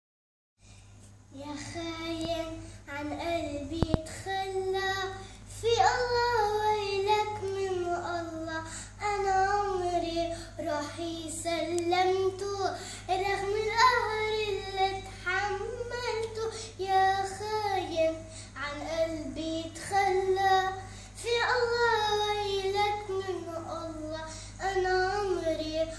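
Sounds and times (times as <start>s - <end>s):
girl singing unaccompanied: 1.2s - 25.9s.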